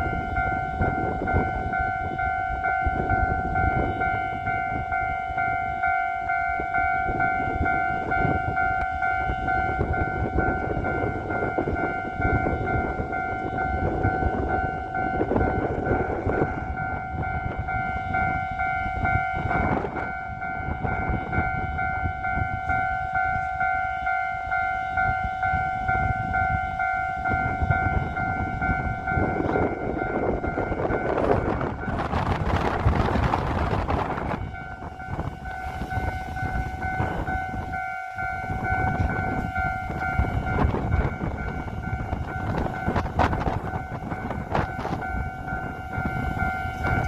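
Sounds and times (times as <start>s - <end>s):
level crossing warning bell: 0.0s - 47.0s
train rumbling: 0.0s - 47.0s.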